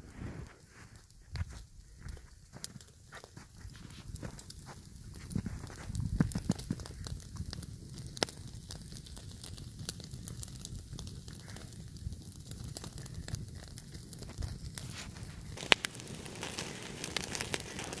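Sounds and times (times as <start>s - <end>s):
campfire crackling: 0.0s - 18.0s
sharp pops of fire: 0.0s - 18.0s.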